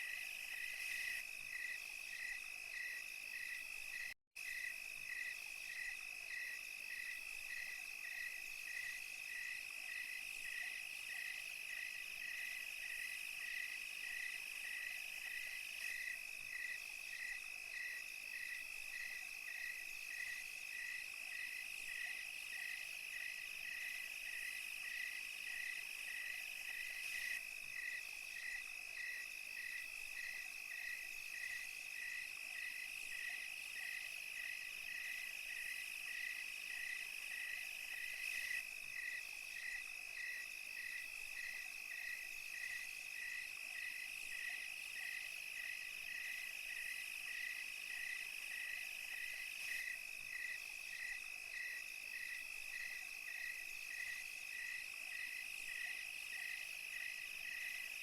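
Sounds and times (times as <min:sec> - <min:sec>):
regular cricket chirp: 0:00.0 - 0:58.0.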